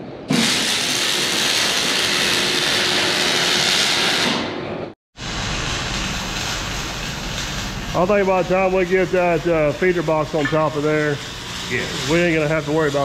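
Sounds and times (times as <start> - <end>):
welding arc crackling hiss: 0.3 - 4.5, 5.2 - 13.0.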